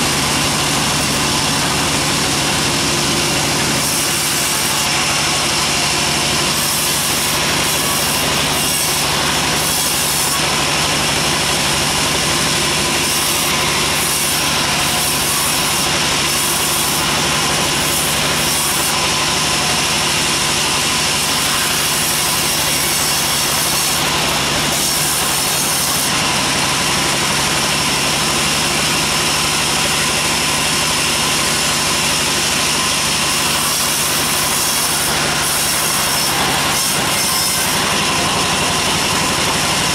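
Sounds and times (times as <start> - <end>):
bandsaw cutting log: 0.0 - 39.9.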